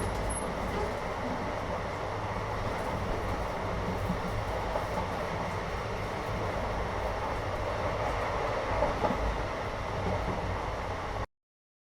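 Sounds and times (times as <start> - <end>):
train rumbling inside carriage: 0.0 - 11.3.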